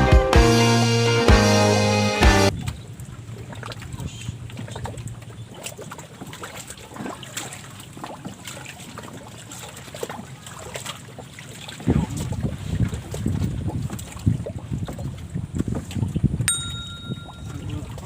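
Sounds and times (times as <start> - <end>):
small waves lapping and splashing: 2.5 - 18.0.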